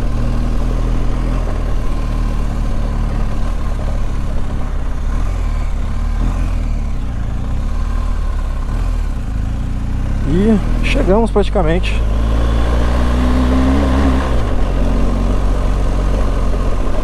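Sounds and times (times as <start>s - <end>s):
motorcycle engine running: 0.0s - 17.0s
rumble of riding over cobbles: 0.0s - 17.0s.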